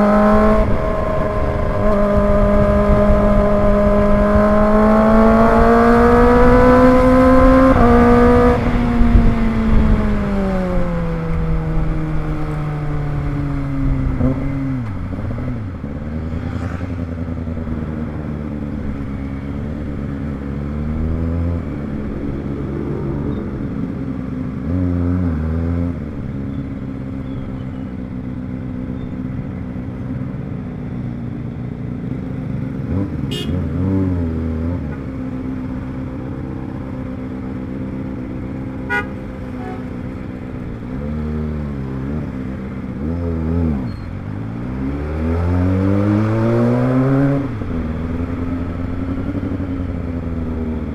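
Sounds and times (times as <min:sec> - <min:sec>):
motorcycle engine revving: 0:00.0 - 0:30.4, 0:31.9 - 0:50.9.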